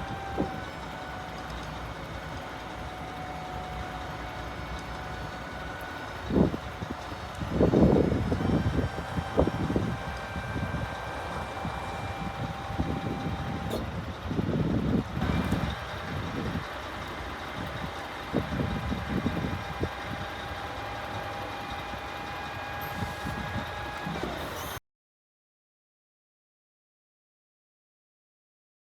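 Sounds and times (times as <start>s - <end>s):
truck engine whining and rumbling: 0.0s - 24.8s.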